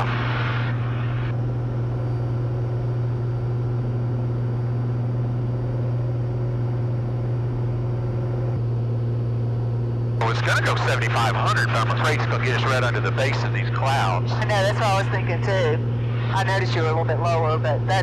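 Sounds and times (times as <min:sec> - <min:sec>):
propeller aircraft engine droning: 0:00.0 - 0:18.0.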